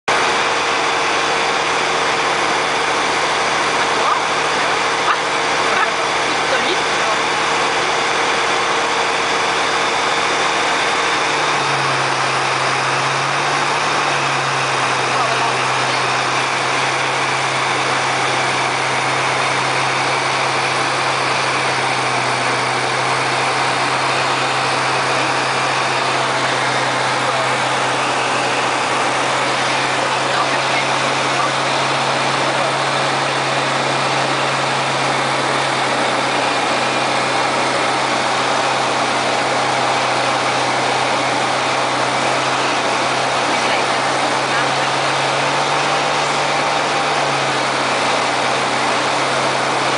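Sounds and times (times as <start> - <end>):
aircraft engine and propeller droning: 0.1 - 49.9.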